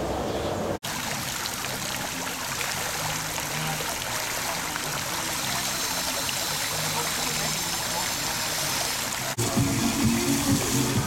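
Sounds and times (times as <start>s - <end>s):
pool water running and trickling: 0.8s - 11.0s.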